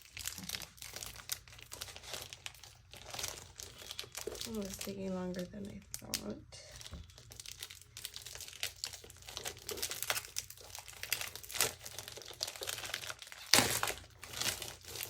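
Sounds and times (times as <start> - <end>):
packaging ripping: 0.0 - 4.9, 6.8 - 15.0
packaging crinkling: 0.0 - 15.0.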